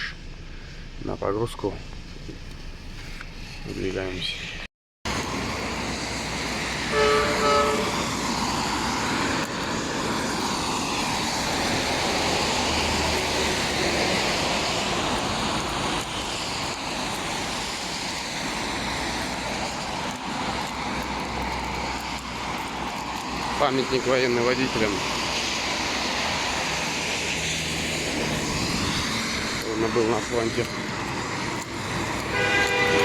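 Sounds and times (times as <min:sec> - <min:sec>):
van road and engine noise: 0:00.0 - 0:33.0.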